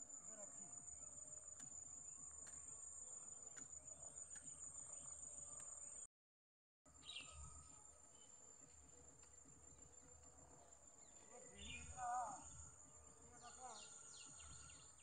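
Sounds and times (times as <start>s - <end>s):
insects trilling: 0.0s - 6.1s, 7.0s - 15.0s.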